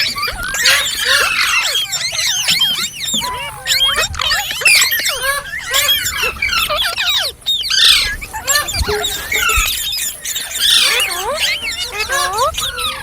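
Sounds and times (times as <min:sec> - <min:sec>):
parrot chattering: 0:00.0 - 0:13.0.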